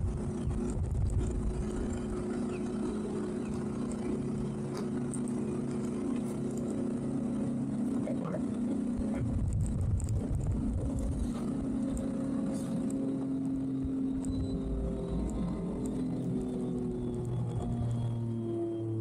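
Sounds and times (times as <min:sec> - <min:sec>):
boat engines idling: 0:00.0 - 0:19.0.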